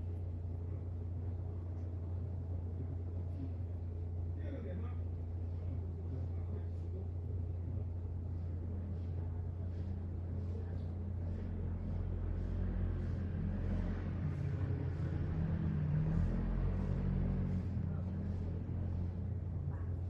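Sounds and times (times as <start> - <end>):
low rumble and hum: 0.0 - 20.0.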